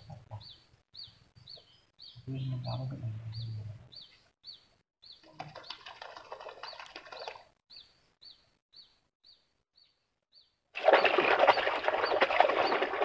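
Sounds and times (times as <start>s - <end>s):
bird chirping: 0.0s - 10.6s.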